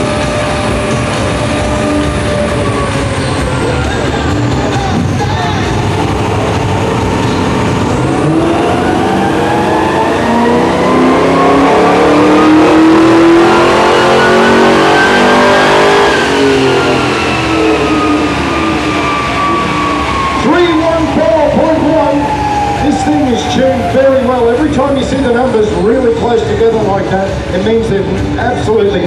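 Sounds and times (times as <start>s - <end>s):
car engine revving at full throttle: 0.0s - 29.0s.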